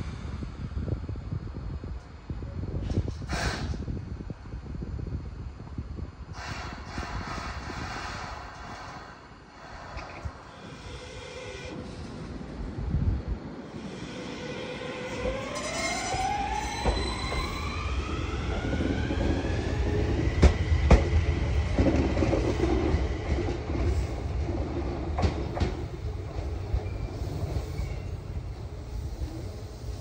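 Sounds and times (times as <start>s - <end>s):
train running rumble: 5.5s - 30.0s.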